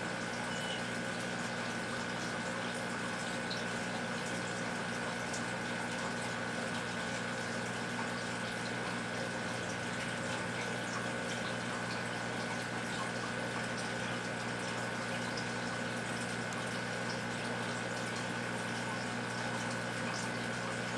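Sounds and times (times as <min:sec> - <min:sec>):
aquarium filter hum: 0:00.0 - 0:20.9
water trickling: 0:00.0 - 0:20.9.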